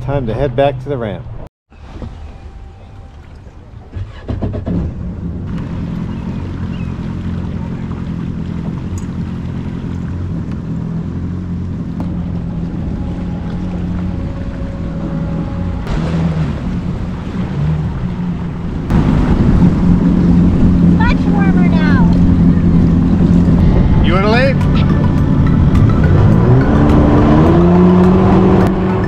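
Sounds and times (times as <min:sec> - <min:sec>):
jet ski engine droning: 0:00.0 - 0:29.0
water washing around hull: 0:01.7 - 0:29.0.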